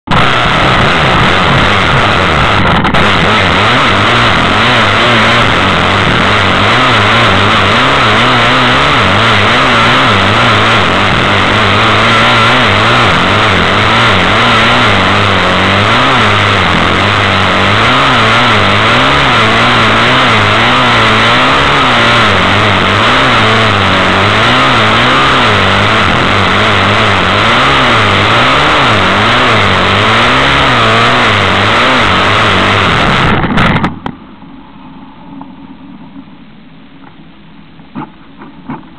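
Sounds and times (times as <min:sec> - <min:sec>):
off-road engine revving: 0:00.0 - 0:34.0.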